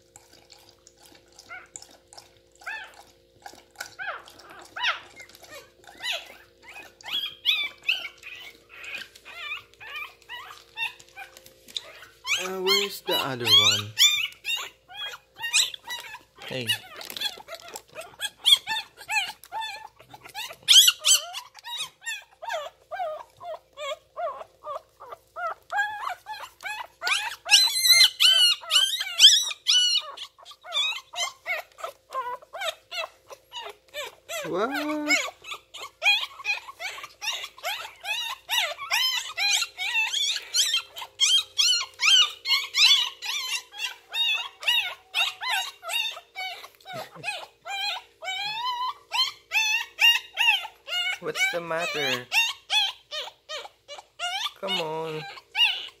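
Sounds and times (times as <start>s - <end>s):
newborn puppies crying and squeaking: 0.0s - 56.0s
lower rising puppy call: 4.0s - 56.0s.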